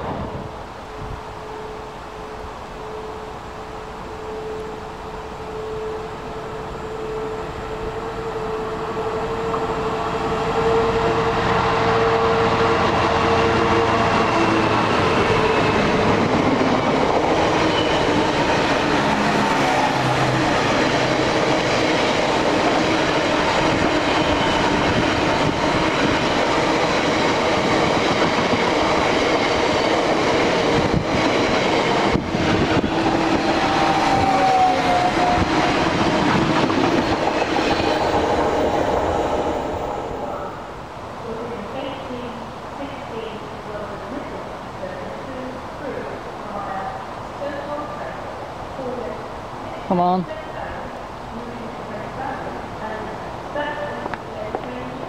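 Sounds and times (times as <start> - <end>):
freight train rumbling: 0.0 - 55.0.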